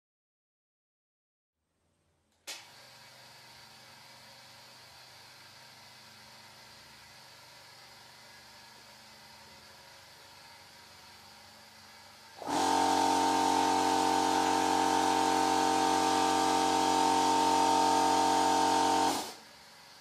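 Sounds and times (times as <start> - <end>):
piston air compressor running: 2.6 - 20.0.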